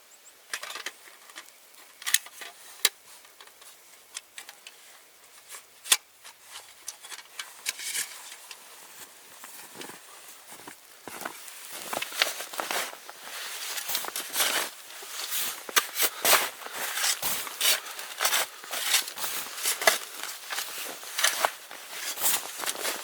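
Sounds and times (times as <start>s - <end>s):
faint rustling: 1.0s - 23.0s.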